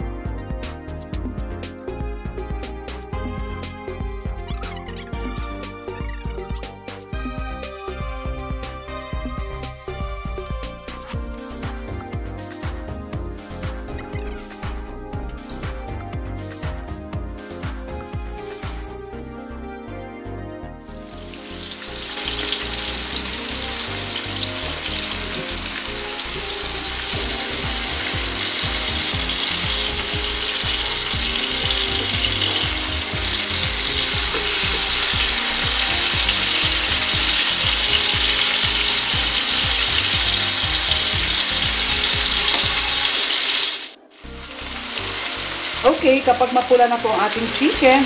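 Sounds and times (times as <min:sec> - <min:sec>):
chicken sizzling in a pan: 0:04.4 - 0:19.1, 0:21.0 - 0:48.0.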